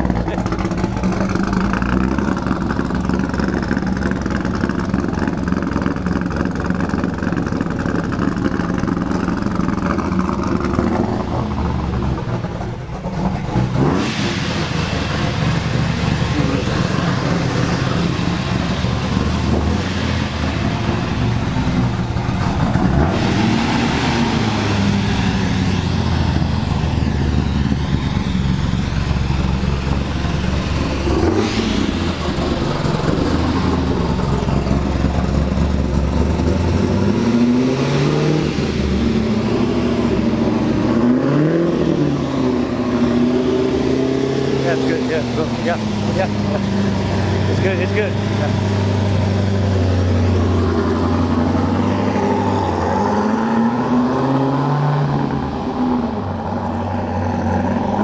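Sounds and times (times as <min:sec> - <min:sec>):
car engine running at low revs: 0:00.0 - 0:58.0.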